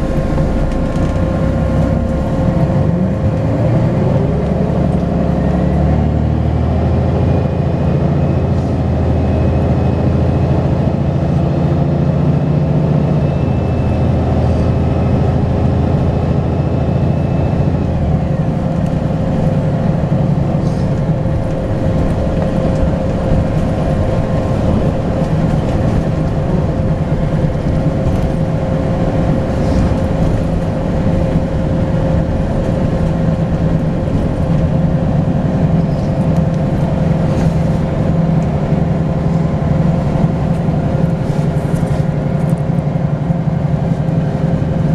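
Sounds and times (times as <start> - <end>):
steady whine: 0.0 - 5.4, 7.8 - 44.9
bus diesel engine under load: 0.0 - 44.9.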